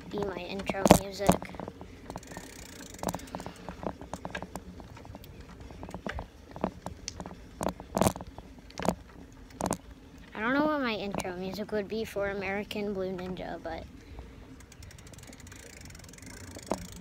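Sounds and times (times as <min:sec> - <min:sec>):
bicycle rattling clicks and knocks: 0:00.0 - 0:10.4, 0:13.4 - 0:17.0.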